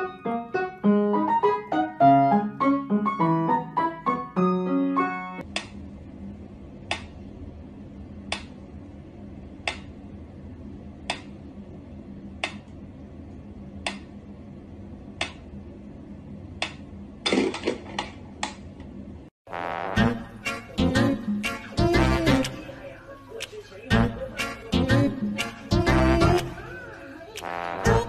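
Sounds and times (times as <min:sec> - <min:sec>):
low steady hum: 0:05.4 - 0:28.0.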